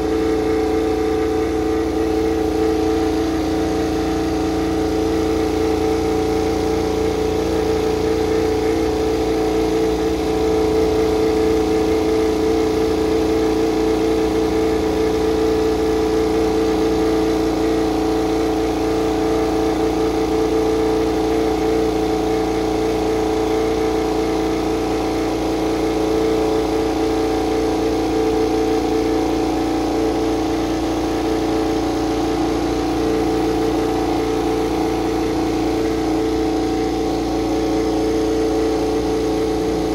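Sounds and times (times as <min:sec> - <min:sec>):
racing engine fast idle: 0:00.0 - 0:39.9.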